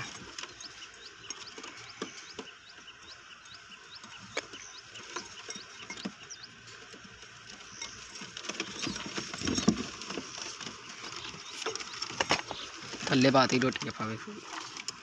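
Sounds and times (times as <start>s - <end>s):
pigeons pecking in clay dish: 0.0s - 15.0s.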